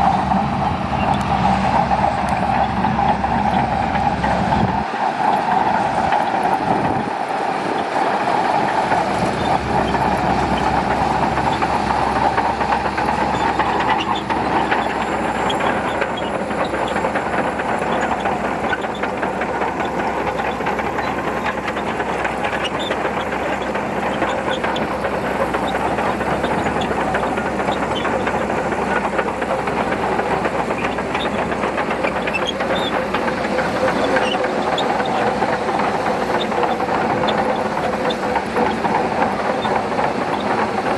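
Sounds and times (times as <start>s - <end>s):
bulldozer engine under load: 0.0s - 40.9s
steel tracks clicking and rattling: 0.0s - 40.9s.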